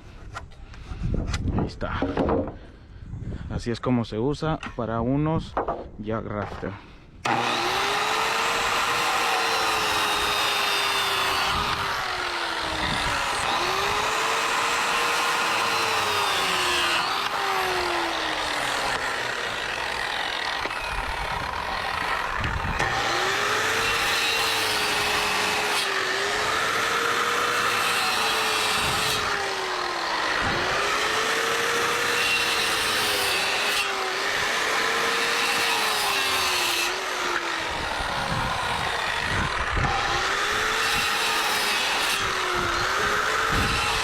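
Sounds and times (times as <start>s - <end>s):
circular saw cutting wood: 7.2s - 44.0s.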